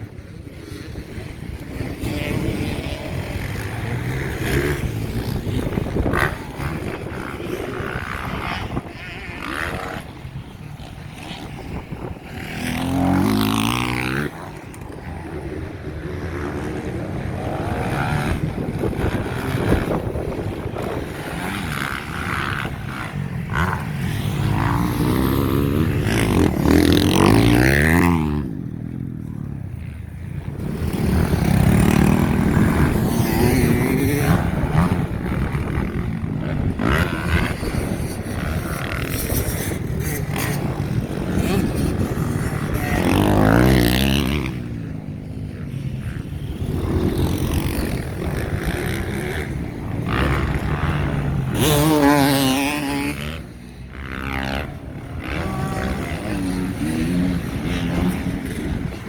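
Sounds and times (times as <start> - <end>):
motocross bikes revving and passing: 0.0 - 59.0.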